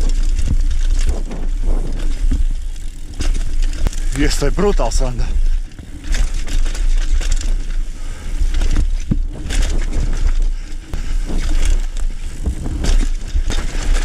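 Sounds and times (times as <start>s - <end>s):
bike knocks and rattles: 0.0s - 14.0s
bike tyres on loose dirt: 0.0s - 14.0s
wind rumble on microphone: 0.0s - 14.0s.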